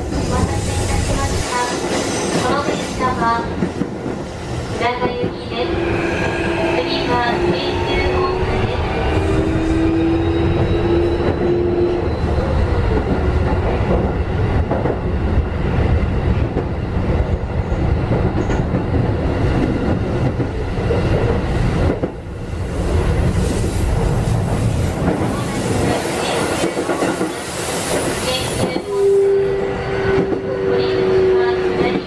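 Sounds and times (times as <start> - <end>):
wheels rumbling on rail: 0.0 - 32.0.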